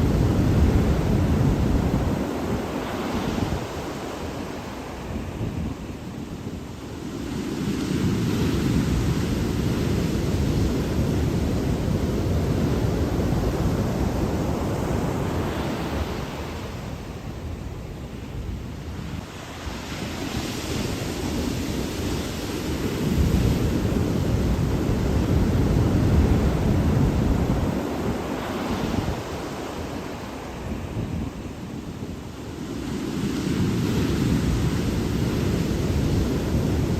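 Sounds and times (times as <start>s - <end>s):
ocean waves breaking on shore: 0.0s - 36.9s.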